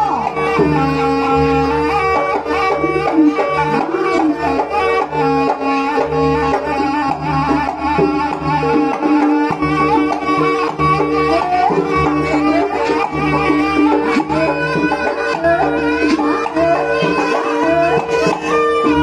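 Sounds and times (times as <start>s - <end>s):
hand drum strokes: 0.0s - 19.0s
wavering melody line: 0.0s - 19.0s.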